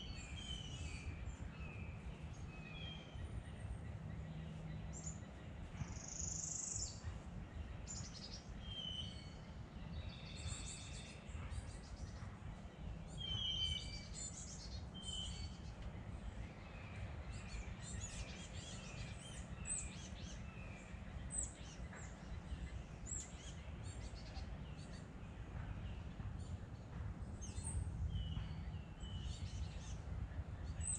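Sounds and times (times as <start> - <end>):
birds singing and chirping: 0.0 - 30.9.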